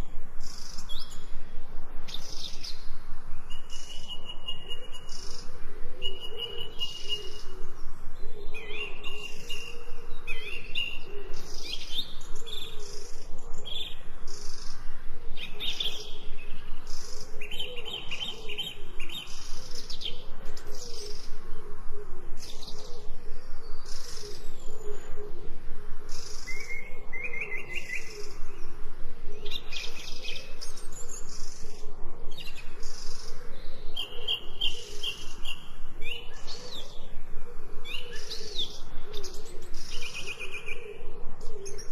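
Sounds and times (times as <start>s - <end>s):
birds chirping: 2.0s - 41.9s.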